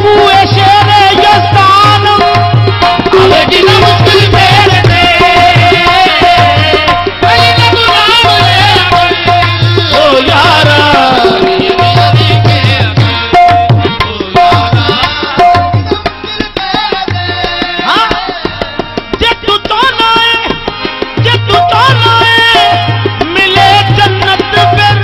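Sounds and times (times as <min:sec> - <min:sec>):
hand drum rhythm: 0:00.0 - 0:25.0
harmonium melody: 0:00.0 - 0:25.0.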